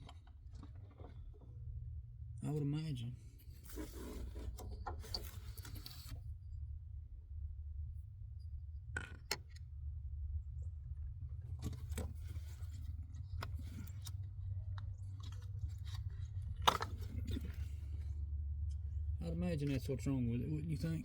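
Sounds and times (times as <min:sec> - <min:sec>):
steady low rumble: 0:01.3 - 0:21.0.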